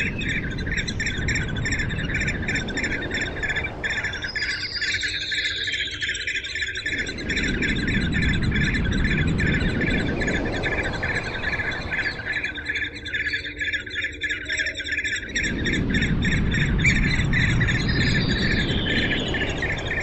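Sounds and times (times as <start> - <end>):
bird chirping rapidly: 0.0 - 20.0
low rumbling noise: 0.0 - 20.0.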